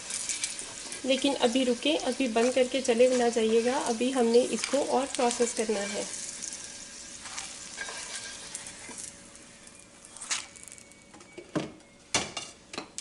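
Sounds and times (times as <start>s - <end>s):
hot oil sizzling in a pan: 0.0s - 11.0s.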